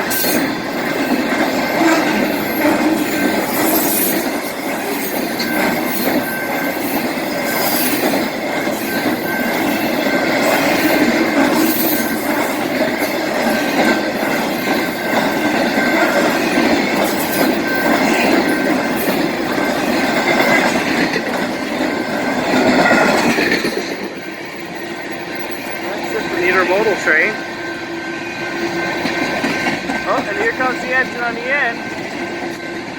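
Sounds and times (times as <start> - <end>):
freight train rumbling past: 0.0 - 32.9
high wheel squeal: 0.0 - 32.9.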